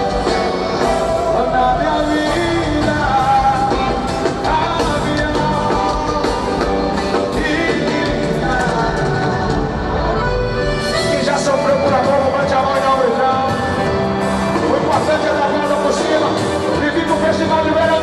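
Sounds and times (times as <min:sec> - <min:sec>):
folk band music: 0:00.0 - 0:18.0
person singing: 0:00.0 - 0:18.0.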